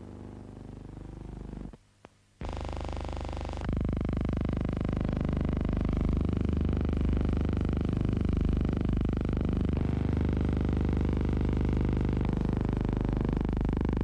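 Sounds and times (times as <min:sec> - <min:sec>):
low buzzing hum: 0:00.0 - 0:01.8, 0:02.4 - 0:14.0.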